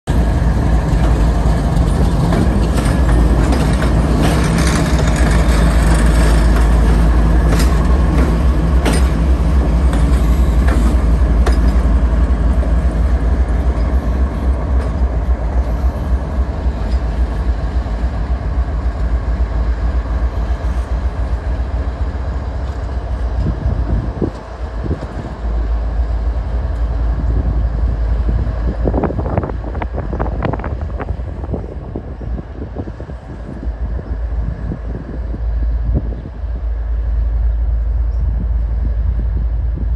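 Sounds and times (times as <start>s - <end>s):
diesel locomotive engines rumbling: 0.0s - 39.9s.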